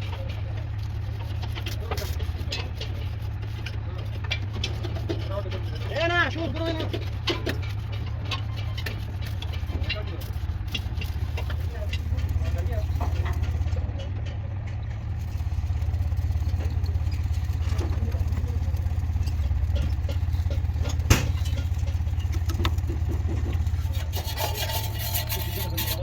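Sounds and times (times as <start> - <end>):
engine rumbling: 0.0 - 26.0.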